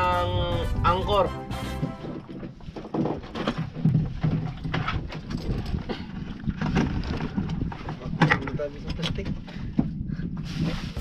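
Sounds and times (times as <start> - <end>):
knocks and clunks on boat: 1.7 - 11.0.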